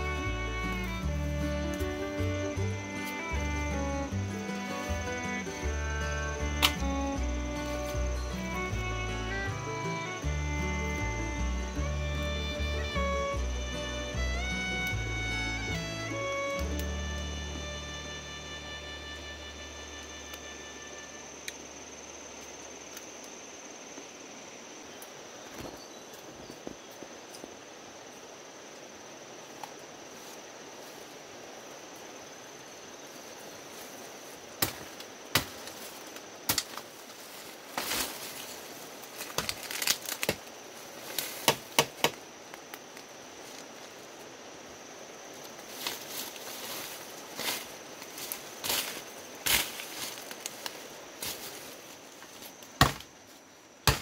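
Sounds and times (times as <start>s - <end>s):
dry leaves and twigs crackling: 0.0s - 24.2s, 32.8s - 44.4s, 45.3s - 54.0s
high insect buzz: 0.0s - 54.0s.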